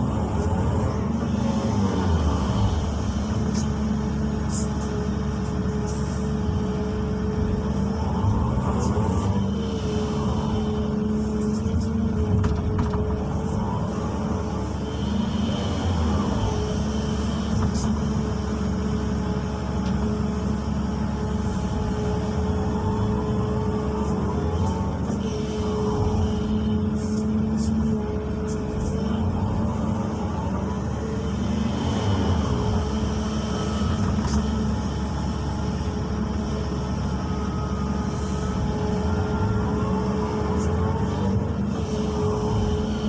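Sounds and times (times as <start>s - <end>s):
excavator engine droning: 0.0s - 43.0s
hydraulic whine: 0.0s - 43.0s.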